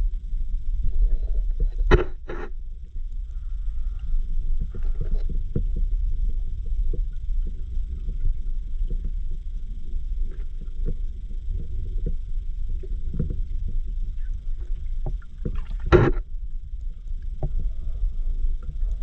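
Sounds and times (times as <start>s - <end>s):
underwater river rumble: 0.0s - 19.0s.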